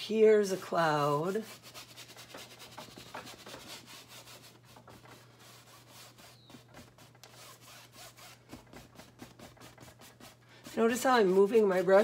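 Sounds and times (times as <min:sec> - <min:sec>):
paintbrush swishing on canvas: 0:01.4 - 0:12.0.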